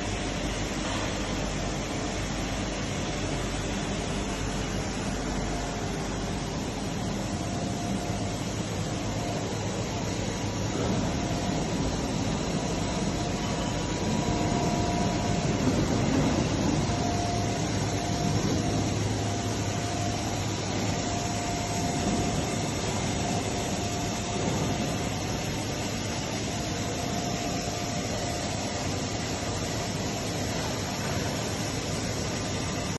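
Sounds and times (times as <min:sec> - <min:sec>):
grinder machine hum and hiss: 0:00.0 - 0:32.9.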